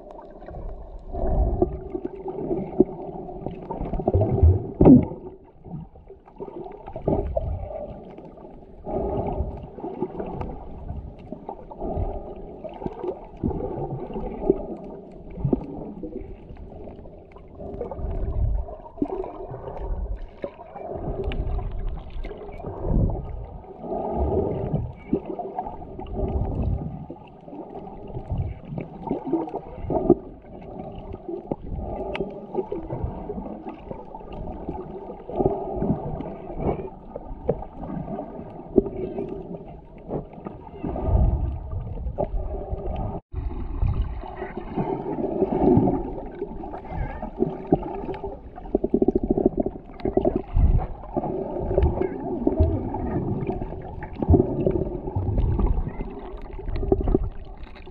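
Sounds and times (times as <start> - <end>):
muffled underwater water noise: 0.0 - 57.9.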